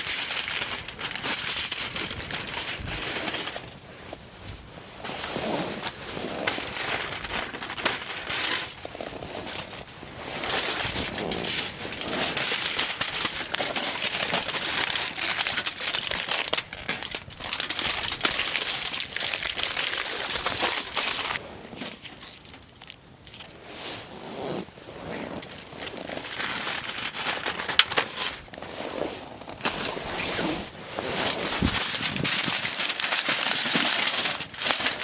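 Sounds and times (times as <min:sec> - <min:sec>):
crinkly sheet crumpling: 0:00.0 - 0:35.0.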